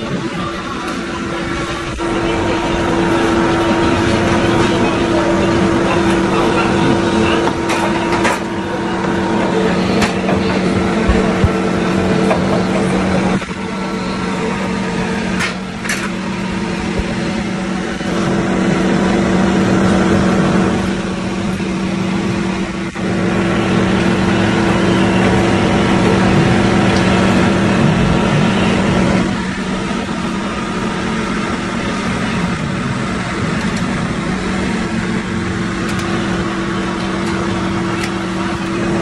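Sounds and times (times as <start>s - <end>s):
motor humming: 0.0s - 39.0s.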